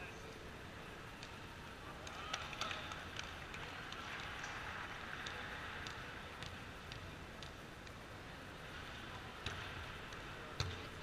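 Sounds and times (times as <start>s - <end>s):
background murmur: 0.0s - 11.0s.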